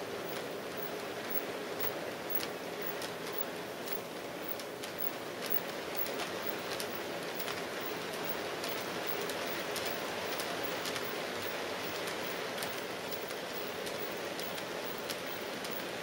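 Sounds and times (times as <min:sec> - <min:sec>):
light track clicks: 0:00.0 - 0:16.0
model train running: 0:00.0 - 0:16.0.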